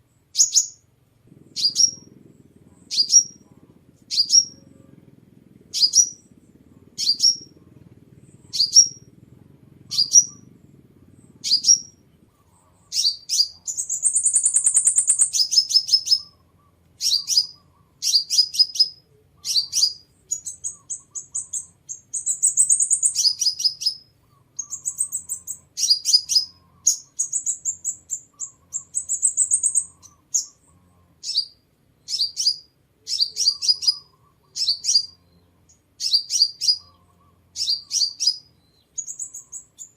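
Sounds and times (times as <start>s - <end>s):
bird chips and trills: 0.3s - 0.8s, 1.4s - 3.5s, 4.1s - 4.6s, 5.6s - 9.1s, 9.8s - 39.9s.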